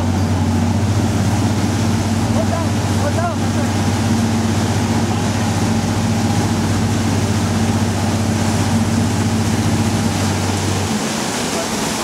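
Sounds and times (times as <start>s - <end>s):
boat engines droning: 0.0s - 12.0s
churning water: 0.0s - 12.0s
wind: 0.0s - 12.0s.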